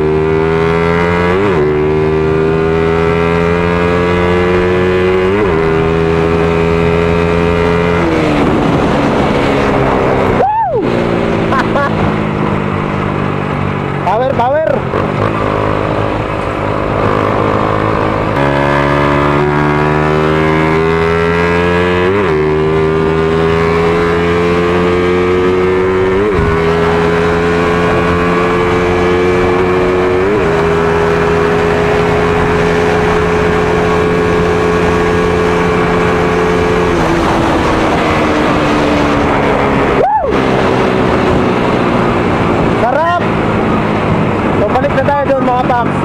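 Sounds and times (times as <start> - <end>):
motorcycle engine at full throttle: 0.0 - 46.0.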